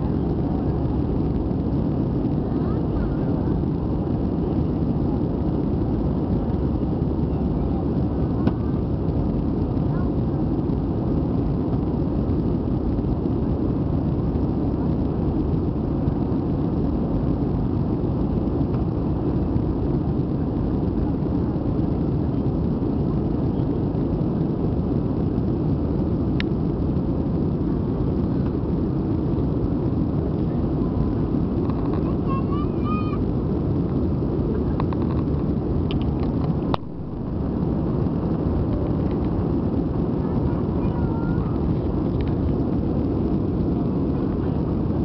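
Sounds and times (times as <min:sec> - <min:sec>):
airplane cabin rumble: 0:00.0 - 0:45.0.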